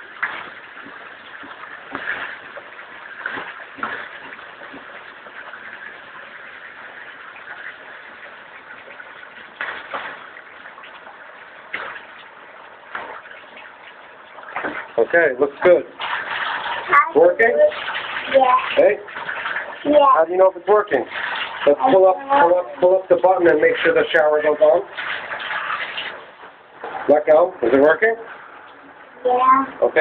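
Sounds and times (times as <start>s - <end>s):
water splashing into bathtub: 0.0s - 30.0s.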